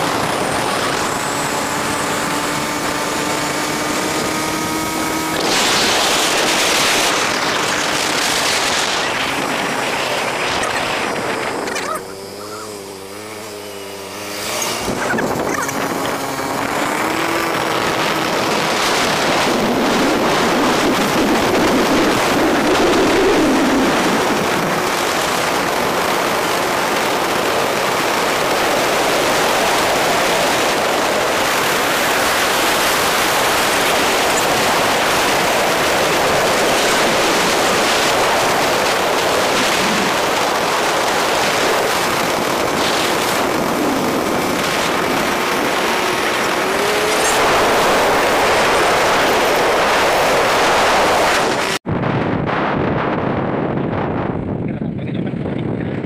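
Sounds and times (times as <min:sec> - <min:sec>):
motorcycle engine running: 0:00.0 - 0:51.8
wind rushing on microphone: 0:00.0 - 0:56.0.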